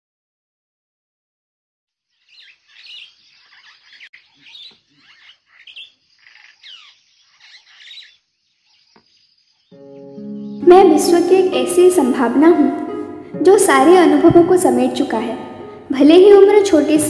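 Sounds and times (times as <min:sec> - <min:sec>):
birds chirping: 0:02.1 - 0:17.0.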